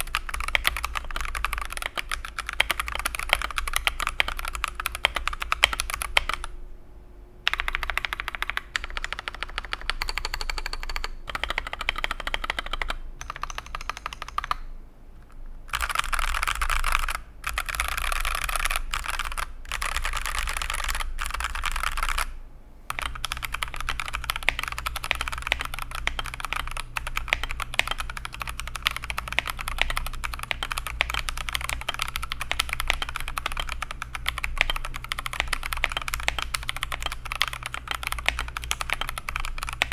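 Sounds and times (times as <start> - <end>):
fast typing on mechanical keyboard: 0.0 - 6.5, 7.5 - 14.7, 15.7 - 39.9.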